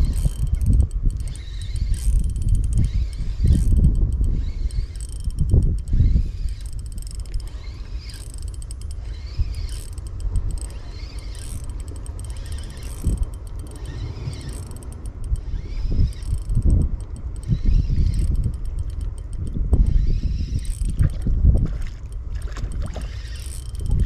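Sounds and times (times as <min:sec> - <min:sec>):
fishing reel whirring: 0:00.0 - 0:24.0
light clicking: 0:00.0 - 0:24.0
steady low rumble: 0:00.0 - 0:24.0.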